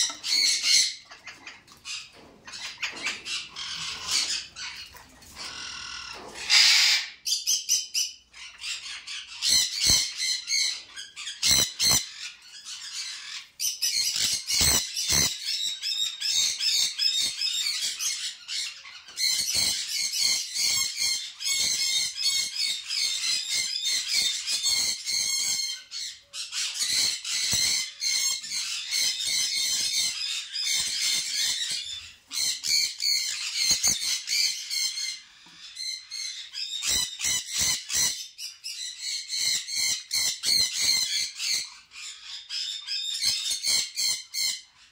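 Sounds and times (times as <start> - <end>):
birds chirping and squawking: 0.0 - 44.9.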